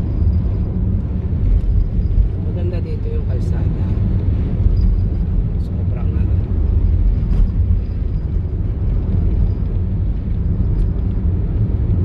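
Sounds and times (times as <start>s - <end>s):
car driving rumble inside car: 0.0s - 12.0s.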